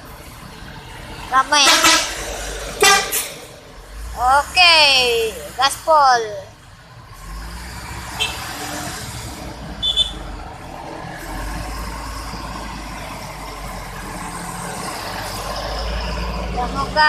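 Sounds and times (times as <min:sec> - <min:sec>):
diesel bus engine rumbling: 0:00.0 - 0:17.0.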